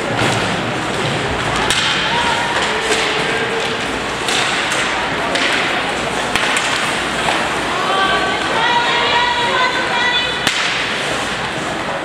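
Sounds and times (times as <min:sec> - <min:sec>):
crowd and players hubbub: 0:00.0 - 0:12.0.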